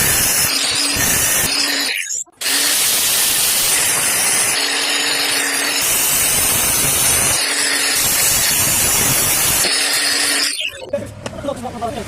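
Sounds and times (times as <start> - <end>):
power tool working wood: 0.0 - 10.6.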